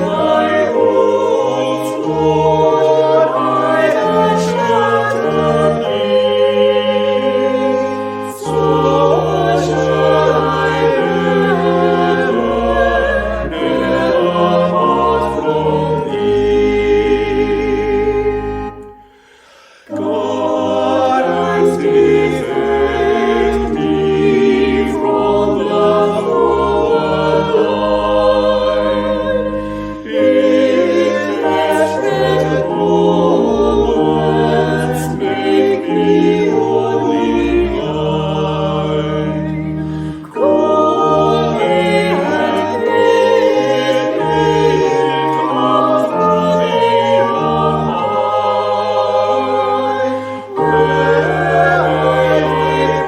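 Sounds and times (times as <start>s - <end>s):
choir singing without accompaniment: 0.0s - 53.0s.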